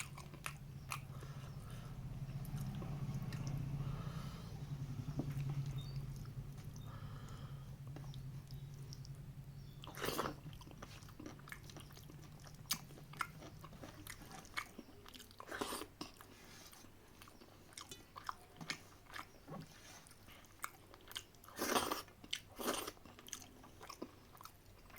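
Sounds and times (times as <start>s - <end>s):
chewing and biting food: 0.0s - 4.0s, 4.8s - 24.9s.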